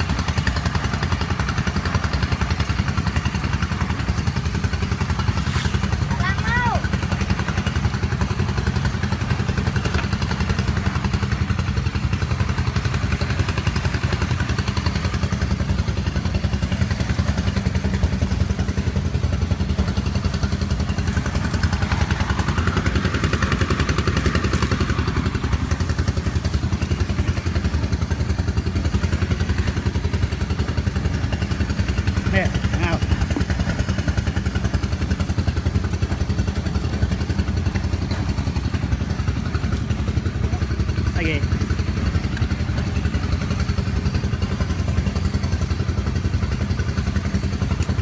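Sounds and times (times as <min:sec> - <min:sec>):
small engine running steadily: 0:00.0 - 0:48.0.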